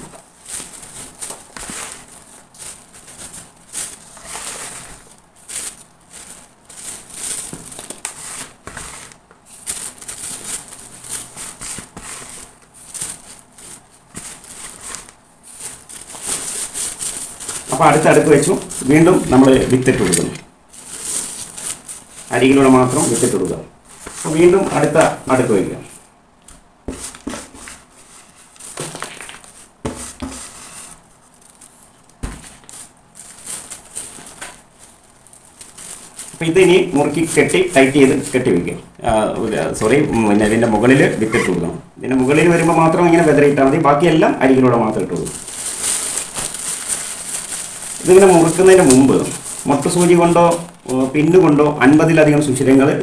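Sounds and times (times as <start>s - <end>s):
plastic bag crinkling: 0.0s - 53.0s.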